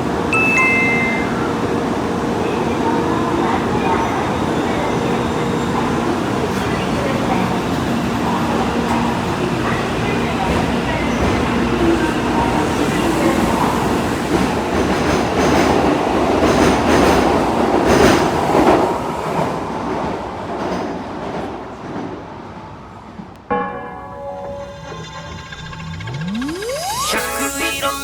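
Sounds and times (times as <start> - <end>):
train running on rails: 0.0 - 28.0.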